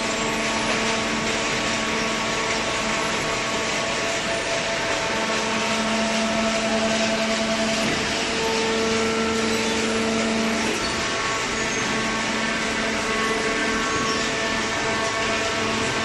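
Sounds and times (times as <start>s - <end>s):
baler machine hum and whine: 0.0s - 16.0s.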